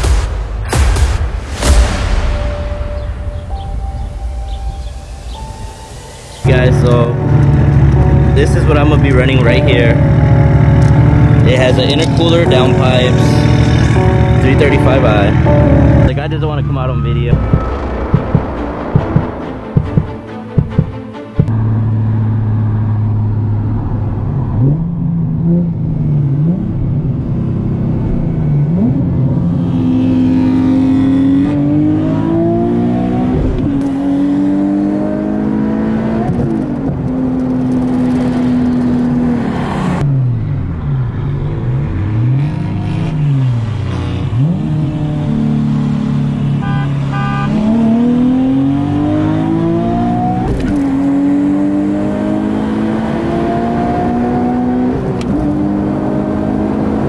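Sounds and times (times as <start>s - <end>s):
car engine at full throttle: 2.5s - 57.0s.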